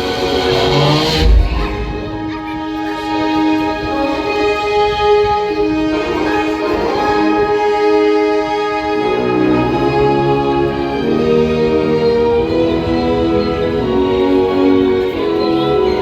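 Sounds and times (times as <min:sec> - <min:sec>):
lower strings: 0:00.0 - 0:15.9
violins playing slow melody: 0:00.0 - 0:16.0.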